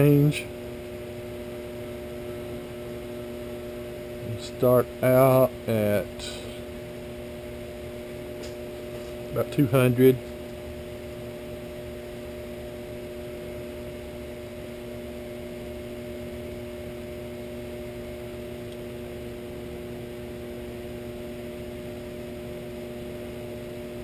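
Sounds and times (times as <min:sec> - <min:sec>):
electric motor humming: 0:00.0 - 0:24.0.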